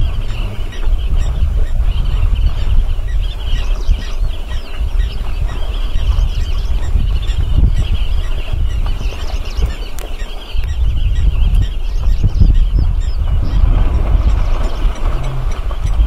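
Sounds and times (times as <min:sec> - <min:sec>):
low rumble: 0:00.0 - 0:09.5, 0:10.7 - 0:16.0
birds chirping chatter: 0:00.0 - 0:16.0.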